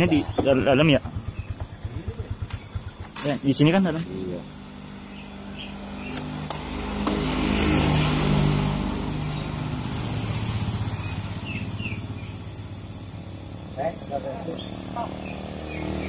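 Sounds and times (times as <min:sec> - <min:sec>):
small motorcycles passing: 0:00.0 - 0:16.0.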